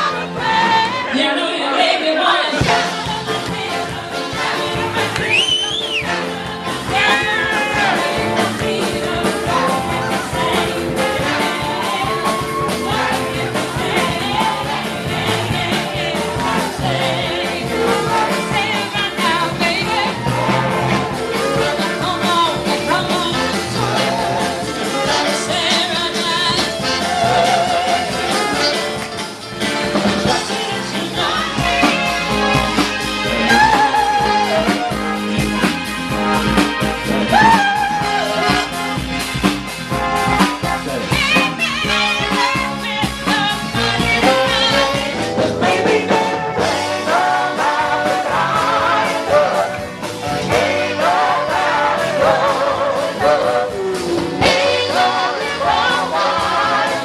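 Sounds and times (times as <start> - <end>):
live band with singer: 0.0 - 57.0.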